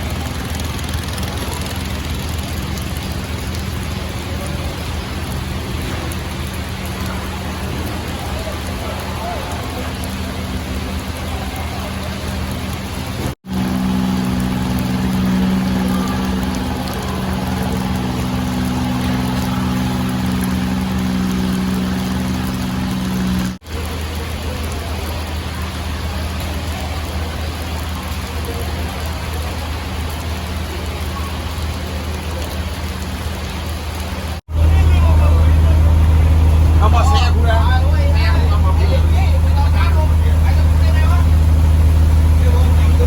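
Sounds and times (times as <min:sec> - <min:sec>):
boat engine running: 0:00.0 - 0:43.0
rushing water or rain: 0:00.0 - 0:43.0.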